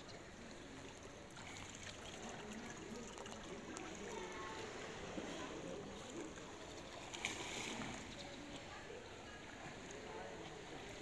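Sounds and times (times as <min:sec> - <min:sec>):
faint distant voices: 0:00.0 - 0:11.0
pool water sloshing and splashing: 0:00.0 - 0:11.0.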